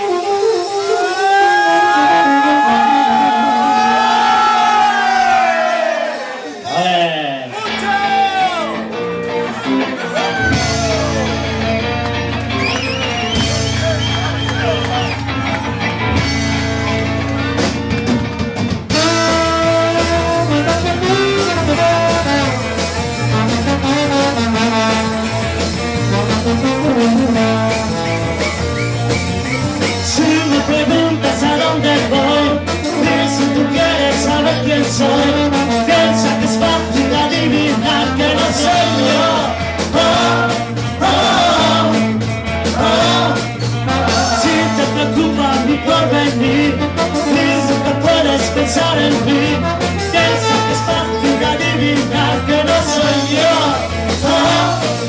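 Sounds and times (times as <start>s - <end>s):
live band music: 0.0s - 55.0s.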